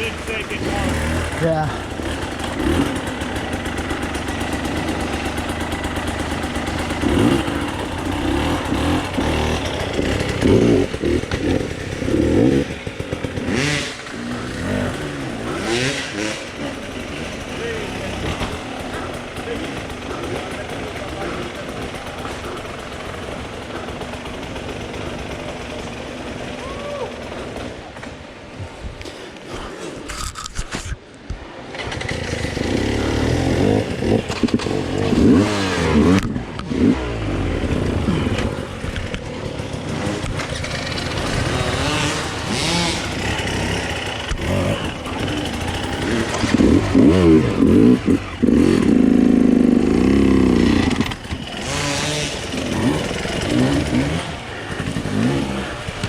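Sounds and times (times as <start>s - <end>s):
dirt bike engine revving: 0.0s - 28.2s, 31.4s - 56.0s.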